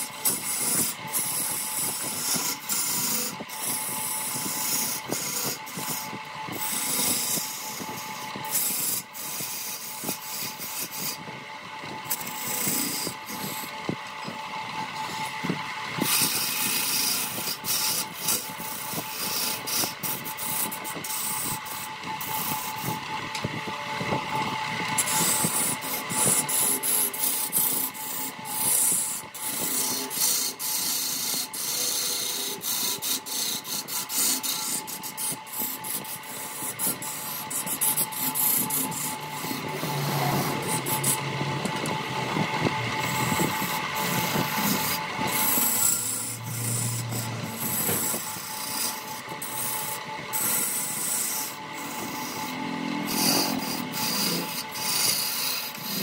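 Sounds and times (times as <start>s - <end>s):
tool scraping spinning wood: 0.0s - 56.0s
wood lathe whine: 0.0s - 56.0s.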